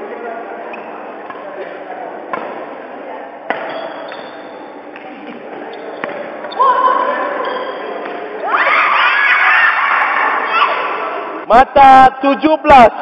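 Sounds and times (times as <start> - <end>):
chatter of spectators: 0.0 - 13.0.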